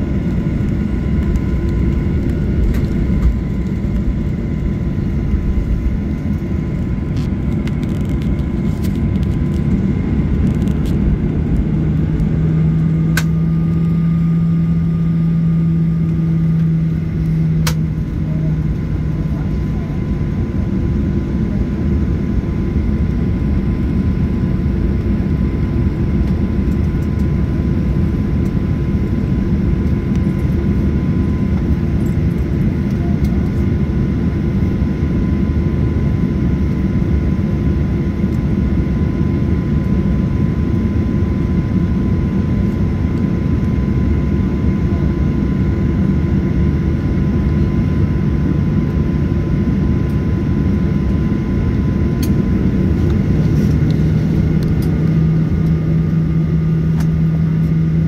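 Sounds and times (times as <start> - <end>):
jet engine and airflow rumble: 0.0 - 58.0
thin steady whine: 0.0 - 58.0.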